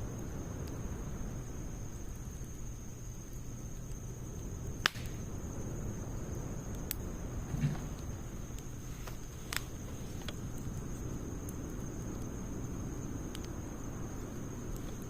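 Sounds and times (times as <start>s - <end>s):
low steady noise: 0.0s - 15.0s
wood fire crackling and popping: 0.0s - 15.0s.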